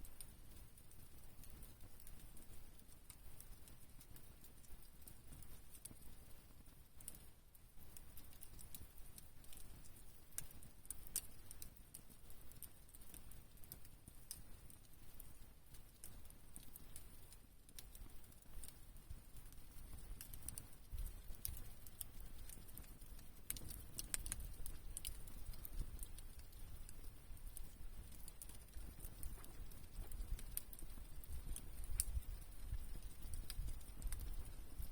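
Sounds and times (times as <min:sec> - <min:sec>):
campfire crackling: 0:00.0 - 0:34.9.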